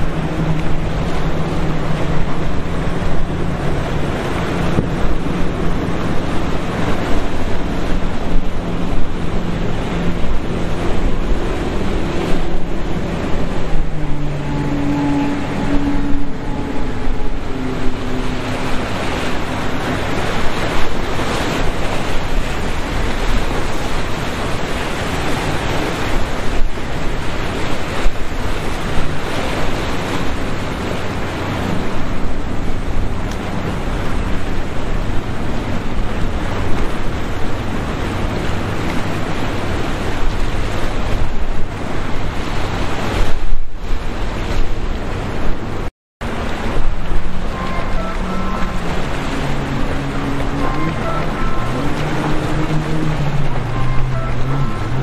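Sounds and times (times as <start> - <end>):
waves and surf: 0.0 - 55.0
wind on microphone: 0.0 - 55.0.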